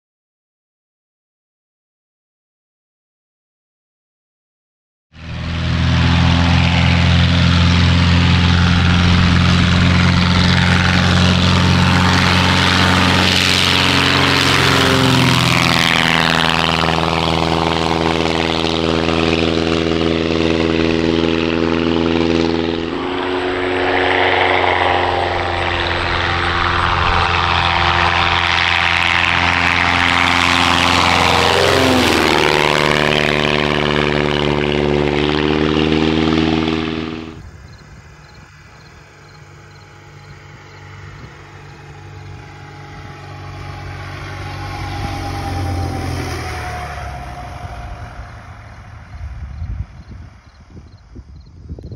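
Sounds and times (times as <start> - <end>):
light plane engine and propeller drone: 5.2 - 51.9.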